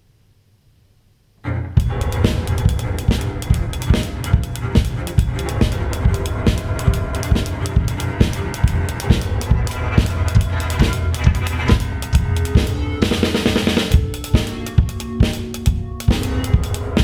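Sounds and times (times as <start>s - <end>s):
buzzy chord: 1.8s - 17.0s
drum kit beat: 1.8s - 17.0s
low bass notes: 1.8s - 17.0s.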